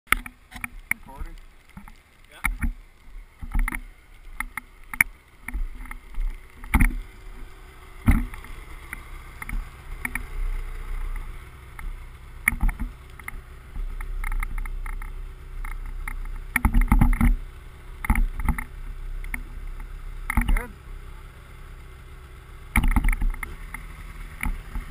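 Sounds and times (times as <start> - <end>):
sharp knocks and bumps: 0.1 - 2.8, 3.4 - 17.4, 18.0 - 20.7, 22.7 - 24.9
snowmobile engine running: 0.2 - 24.9.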